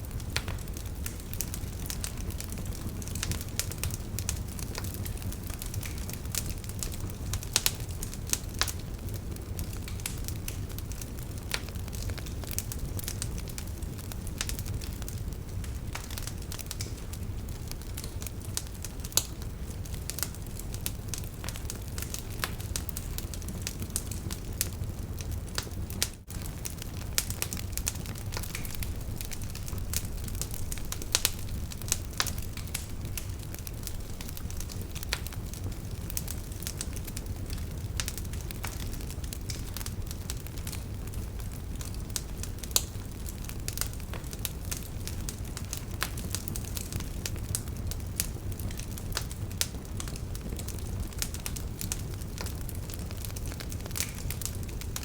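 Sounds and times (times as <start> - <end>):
campfire flames rumbling: 0.0 - 55.0
wood crackling and popping: 0.0 - 55.0.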